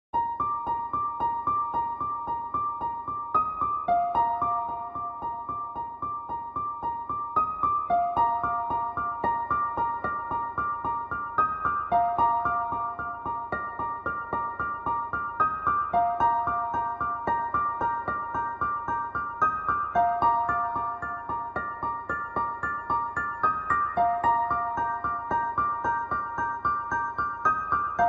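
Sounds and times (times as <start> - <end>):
keyboard melody: 0.2 - 28.0.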